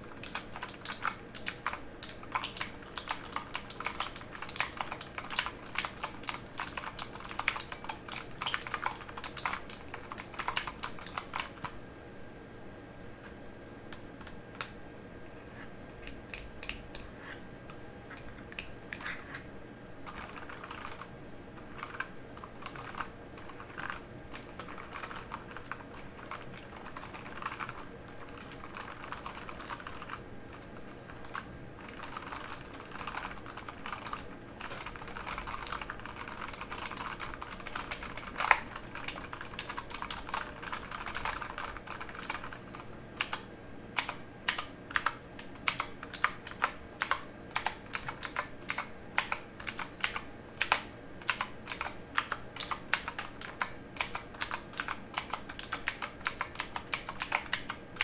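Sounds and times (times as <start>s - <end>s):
mechanical keyboard typing: 0.1s - 11.8s, 20.0s - 58.0s.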